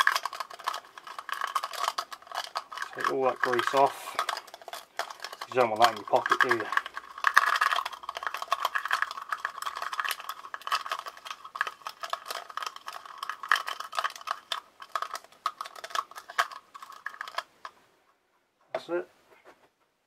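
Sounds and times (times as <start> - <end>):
chain rattling in metal pot: 0.0 - 17.5.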